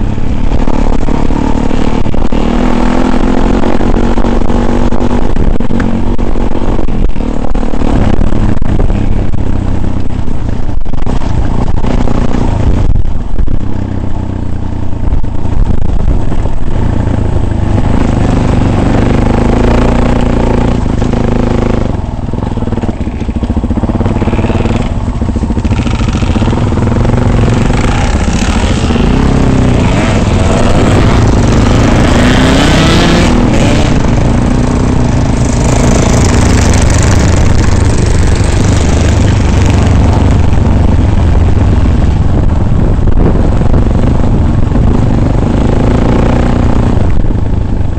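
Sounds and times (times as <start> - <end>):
off-road vehicle engine revving: 0.0 - 9.4, 15.9 - 42.6, 43.2 - 47.8
heavy low rumble: 0.0 - 47.9.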